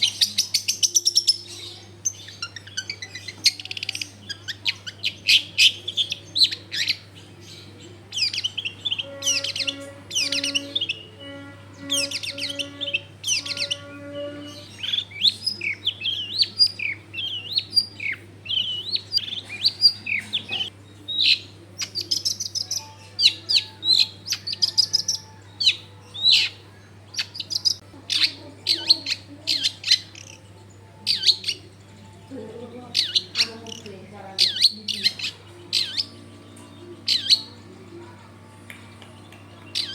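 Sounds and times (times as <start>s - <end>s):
bird singing varied chirps and trills: 0.0s - 39.9s.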